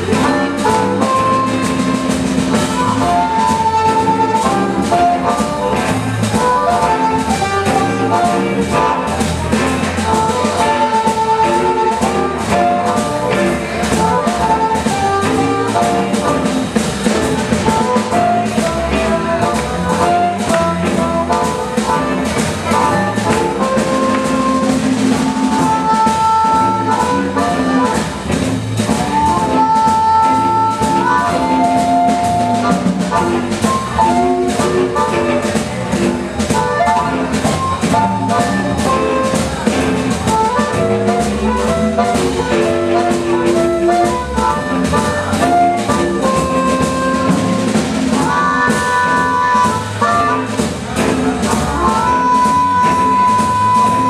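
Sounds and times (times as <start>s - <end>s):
drum kit beat: 0.0s - 54.0s
lead instrument melody: 0.0s - 54.0s.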